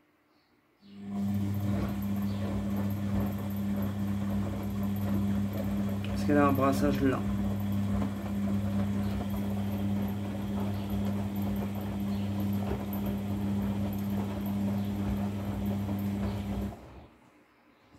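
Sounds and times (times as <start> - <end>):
washing machine motor hum: 1.0 - 17.2.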